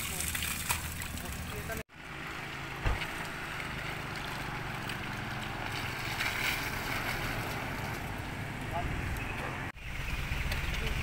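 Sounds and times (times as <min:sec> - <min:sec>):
engine droning: 0:01.2 - 0:11.0.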